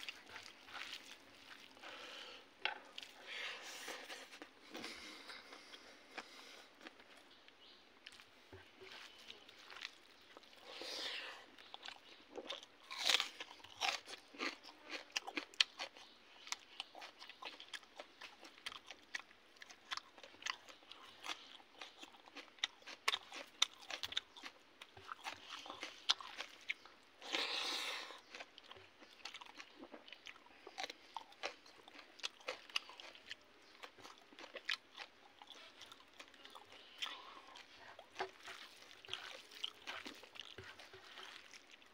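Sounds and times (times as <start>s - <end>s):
person chewing and crunching: 0.0s - 41.9s.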